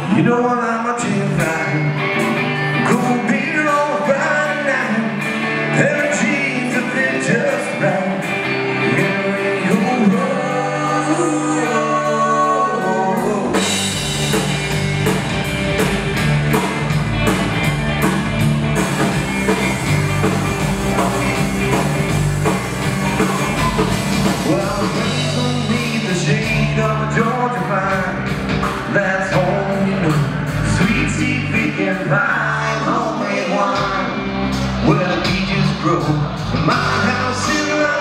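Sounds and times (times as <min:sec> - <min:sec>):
country rock band playing: 0:00.0 - 0:38.0.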